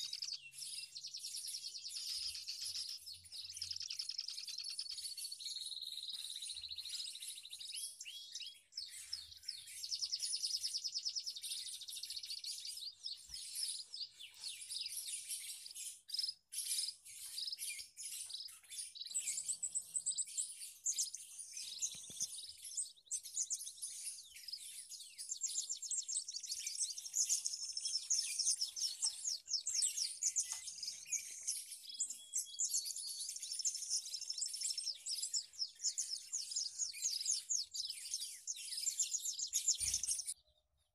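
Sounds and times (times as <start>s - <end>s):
finches chirping and twittering: 0.0s - 40.9s.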